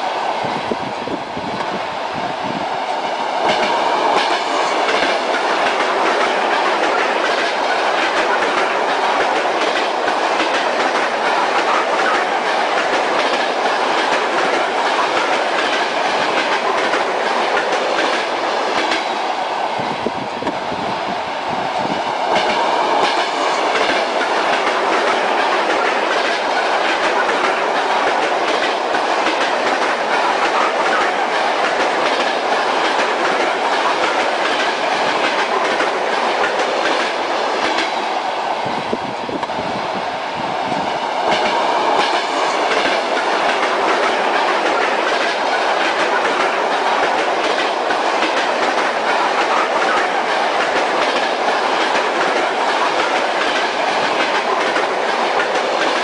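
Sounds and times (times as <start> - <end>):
rumble of wheels and track: 0.3 - 56.0
train wheels clacking over rail joints: 3.0 - 19.3, 22.1 - 38.3, 41.0 - 56.0.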